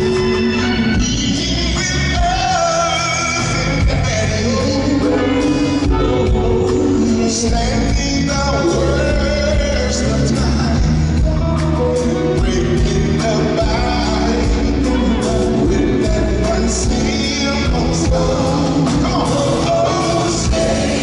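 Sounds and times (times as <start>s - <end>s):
live soul band playing: 0.0s - 21.0s
man singing: 0.0s - 21.0s.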